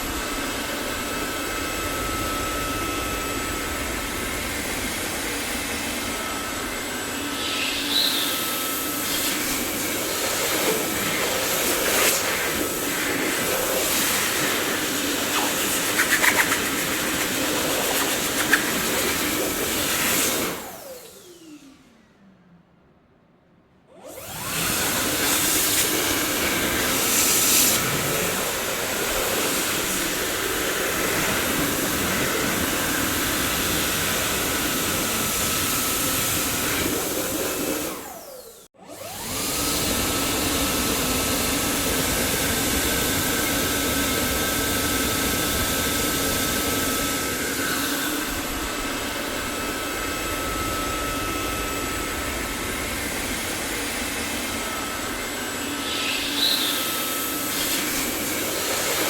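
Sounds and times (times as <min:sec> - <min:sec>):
vacuum cleaner running: 0:00.0 - 0:22.2, 0:23.9 - 0:59.0.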